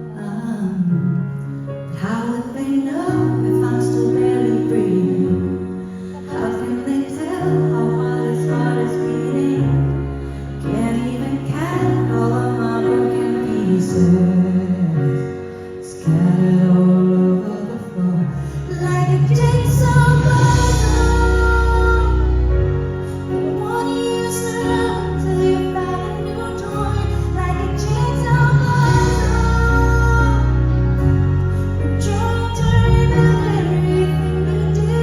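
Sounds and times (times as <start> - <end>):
band accompaniment with low bass: 0.0 - 35.0
woman singing a ballad: 0.0 - 35.0.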